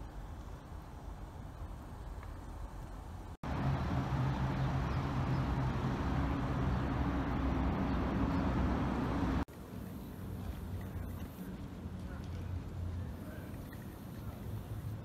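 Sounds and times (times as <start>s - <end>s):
road noise: 0.0s - 15.0s
vehicle engine hum: 3.0s - 15.0s.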